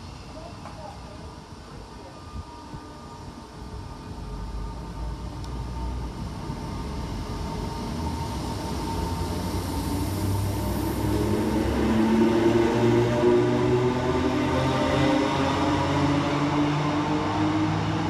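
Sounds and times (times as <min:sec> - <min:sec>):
electric train pulling away: 0:00.0 - 0:18.0.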